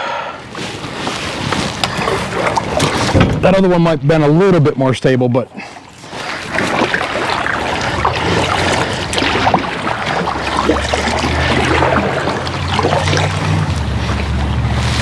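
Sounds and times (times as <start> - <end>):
boat motor hum: 0.0 - 4.6, 5.2 - 15.0
water splashing: 0.4 - 15.0.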